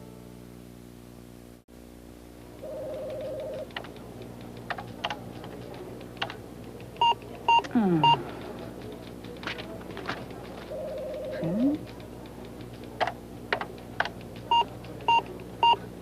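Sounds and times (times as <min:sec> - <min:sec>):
computer keyboard keys clicking: 0:02.9 - 0:15.9.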